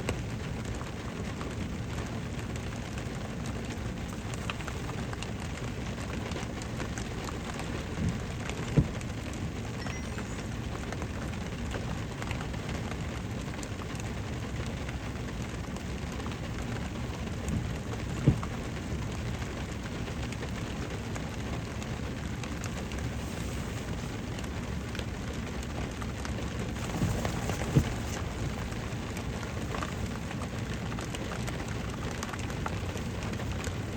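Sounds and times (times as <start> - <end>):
rain falling on a car: 0.0 - 33.9.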